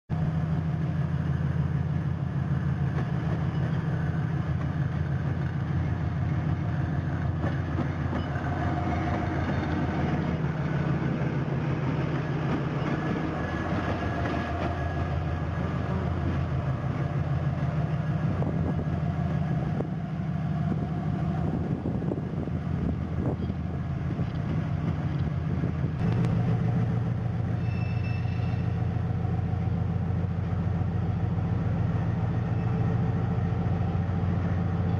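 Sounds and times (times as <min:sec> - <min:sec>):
diesel locomotive engine drone: 0:00.1 - 0:34.9.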